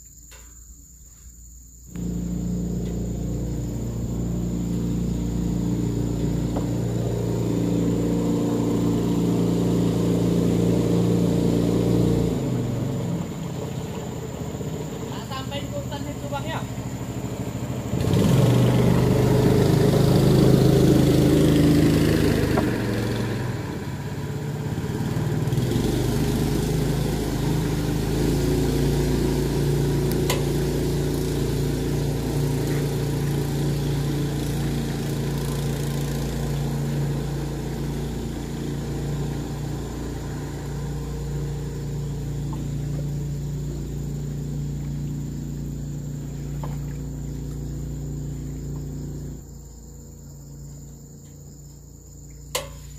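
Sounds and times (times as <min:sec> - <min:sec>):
small engine running: 0:01.9 - 0:52.9.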